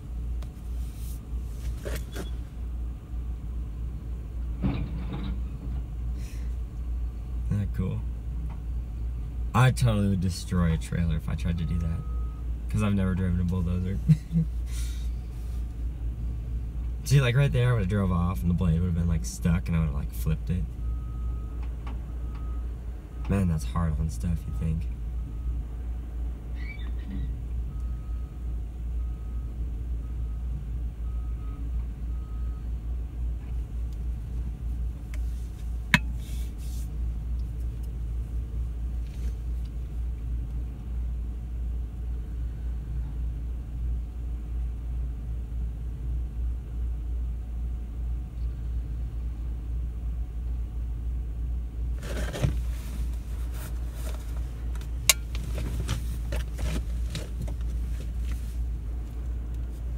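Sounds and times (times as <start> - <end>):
diesel engine rumble: 0.0 - 59.9.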